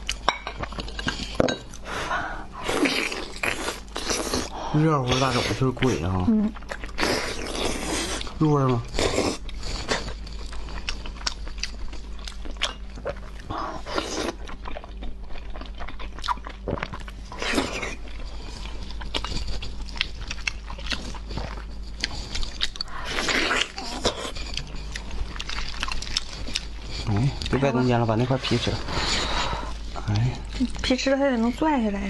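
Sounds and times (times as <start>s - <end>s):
wet chewing and lip-smacking: 5.2s - 30.9s.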